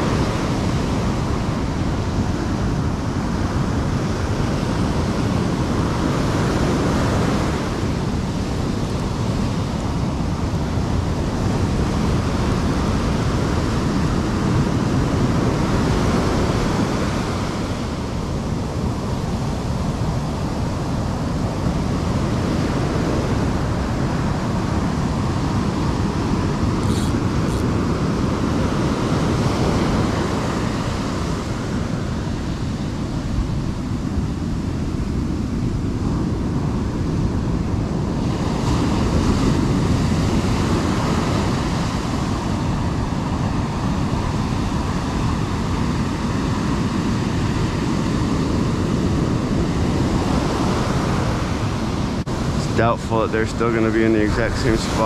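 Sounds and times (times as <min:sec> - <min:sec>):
surf breaking on beach: 0:00.0 - 0:55.0.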